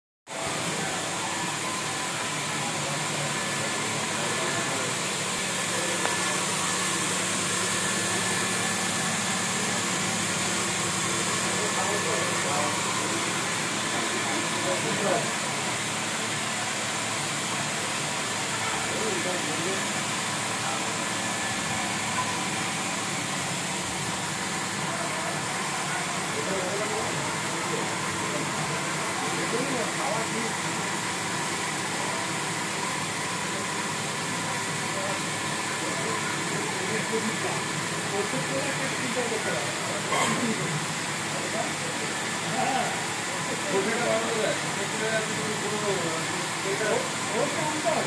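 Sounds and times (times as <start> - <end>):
water treatment plant humming: 0.3 - 48.0.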